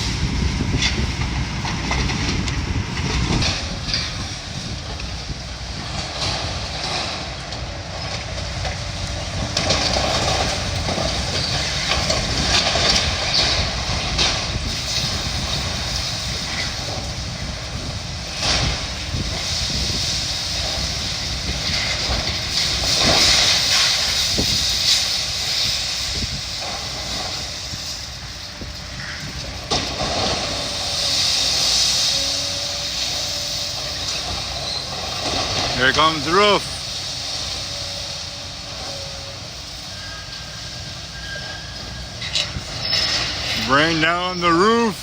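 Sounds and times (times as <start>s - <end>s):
heavy excavator running: 0.0s - 45.0s
debris crunching and scraping: 0.7s - 28.4s, 29.0s - 45.0s.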